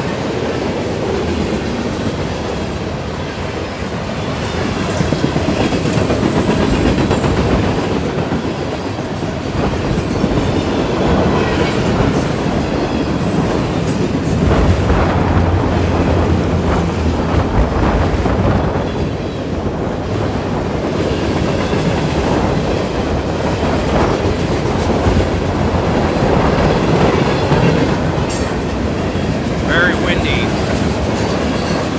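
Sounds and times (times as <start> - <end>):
freight train wheel noise: 0.0 - 31.9.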